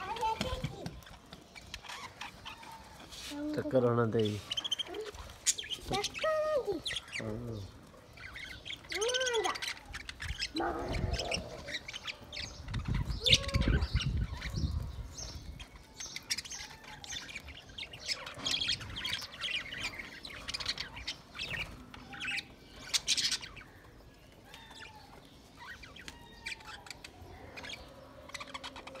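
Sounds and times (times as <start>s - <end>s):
budgerigars chirping and warbling: 0.0s - 29.0s.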